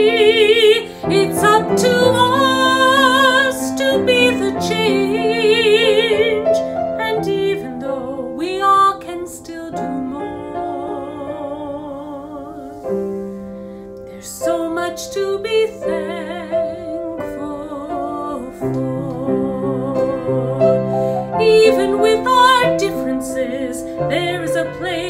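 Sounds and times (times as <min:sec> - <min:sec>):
woman singing with vibrato: 0:00.0 - 0:12.8, 0:14.1 - 0:25.0
piano accompaniment: 0:00.0 - 0:25.0.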